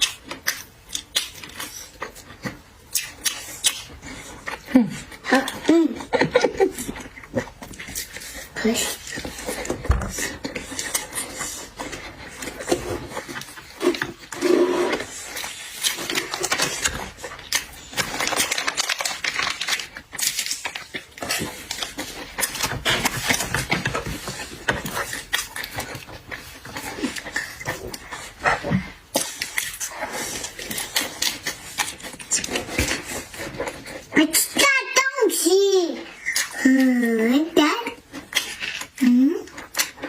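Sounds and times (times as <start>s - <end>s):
chewing with crunches: 0.0s - 34.8s, 36.0s - 40.0s.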